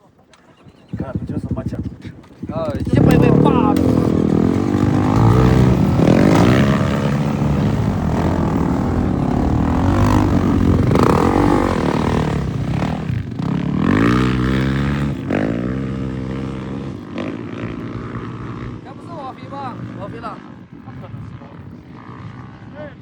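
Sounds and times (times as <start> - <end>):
dirt bike engine revving: 2.4 - 21.2.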